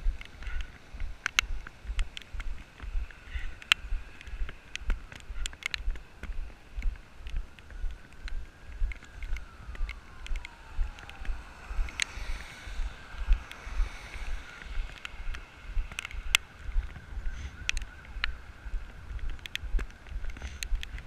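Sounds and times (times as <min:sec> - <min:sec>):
raindrops ticking on camera: 0:00.0 - 0:21.0.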